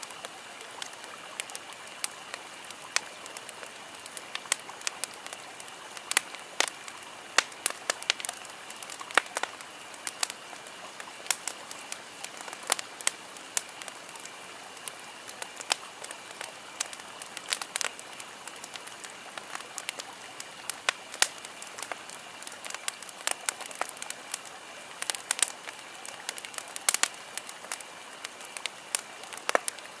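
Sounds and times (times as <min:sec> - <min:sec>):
bonfire crackling: 0:00.0 - 0:30.0
steady hiss: 0:00.0 - 0:30.0.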